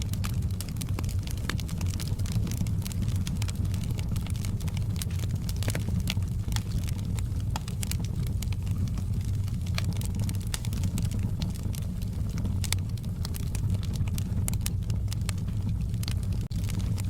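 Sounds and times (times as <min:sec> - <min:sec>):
fireplace fire crackling and popping: 0:00.0 - 0:17.0
low rumble of flames: 0:00.0 - 0:17.0.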